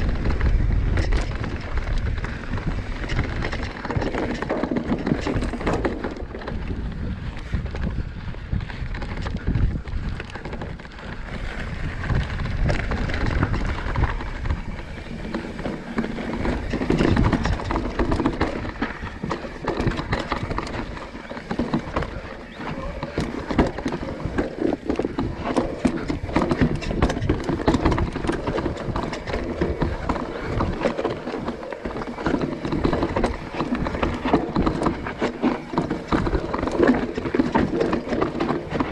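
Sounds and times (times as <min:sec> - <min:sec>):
bike rattling over rocks: 0:00.0 - 0:38.9
wind rumble on microphone: 0:00.0 - 0:38.9.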